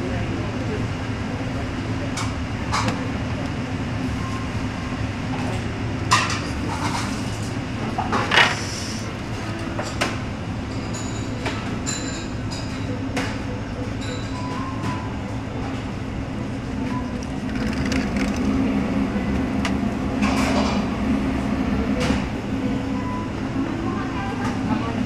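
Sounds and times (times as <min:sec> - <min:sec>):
low hum of refrigeration: 0:00.0 - 0:25.0.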